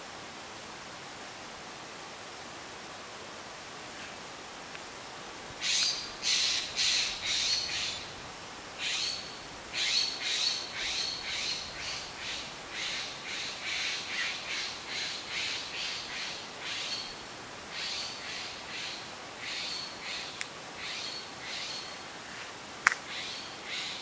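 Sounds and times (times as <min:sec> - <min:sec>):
breeze hiss: 0:00.0 - 0:24.0.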